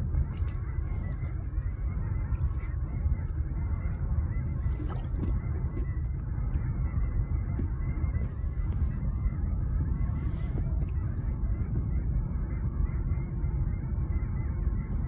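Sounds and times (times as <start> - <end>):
low rumble: 0.0 - 15.0
seabirds calling: 0.0 - 15.0.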